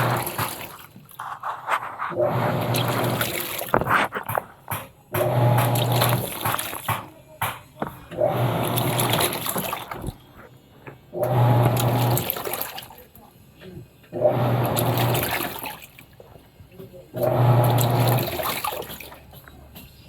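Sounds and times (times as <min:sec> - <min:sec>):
water sloshing: 0:00.0 - 0:13.3, 0:14.3 - 0:20.0
washing machine motor humming: 0:00.0 - 0:20.0.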